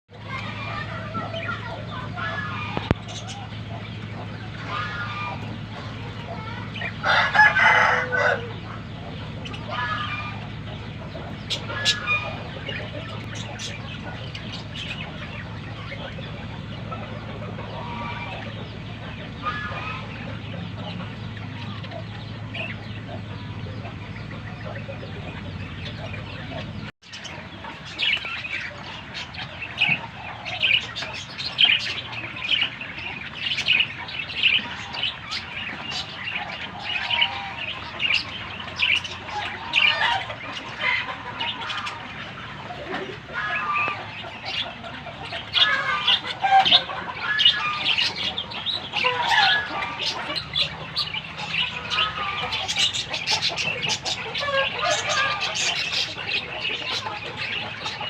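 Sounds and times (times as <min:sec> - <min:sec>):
birds chirping and clucking: 0:00.1 - 0:58.0
low steady hum: 0:00.1 - 0:58.0.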